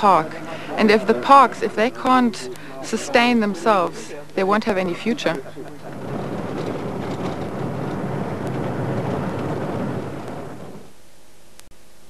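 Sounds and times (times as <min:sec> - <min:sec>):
low rumbling noise: 0:00.0 - 0:11.6.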